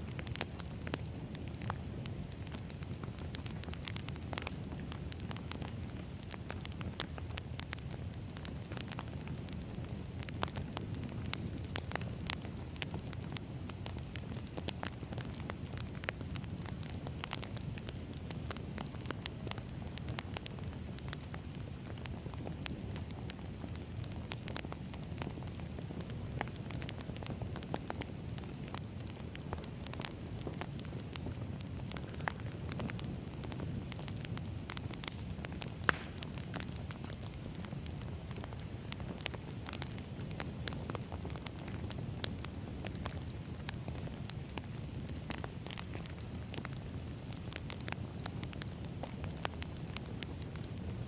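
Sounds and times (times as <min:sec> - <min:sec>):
fire rumbling: 0:00.0 - 0:51.0
firewood popping and snapping: 0:00.1 - 0:50.8.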